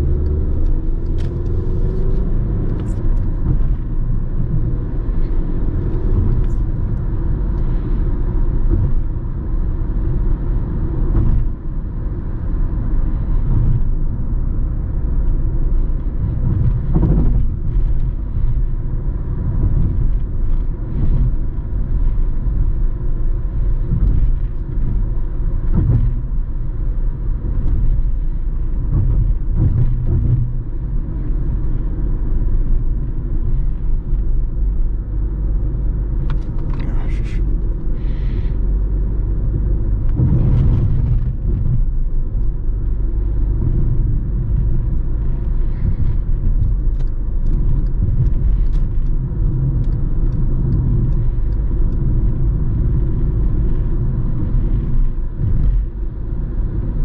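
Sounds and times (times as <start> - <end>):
low engine rumble: 0.0 - 57.0.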